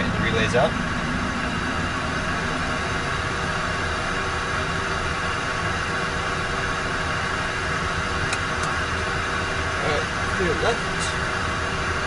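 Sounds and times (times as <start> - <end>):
jet engine idling: 0.0 - 12.0.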